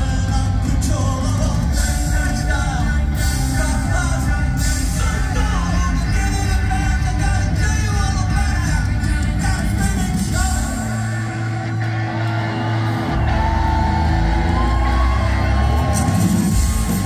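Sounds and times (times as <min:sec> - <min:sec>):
lead singer singing: 0:00.0 - 0:17.0
live rock band playing: 0:00.0 - 0:17.0.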